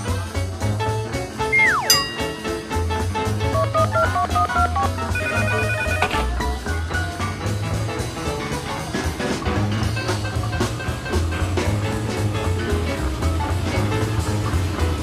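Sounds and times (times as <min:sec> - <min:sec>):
background music with bass and drums: 0:00.0 - 0:15.0.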